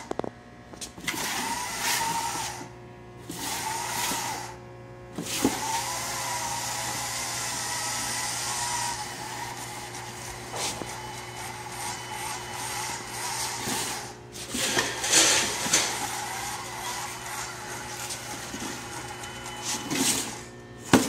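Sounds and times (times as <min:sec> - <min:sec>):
electric motors whining: 0:00.0 - 0:21.0.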